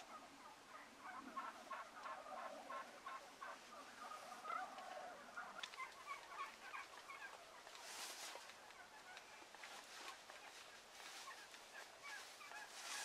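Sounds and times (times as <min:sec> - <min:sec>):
turkeys calling: 0:00.0 - 0:13.0.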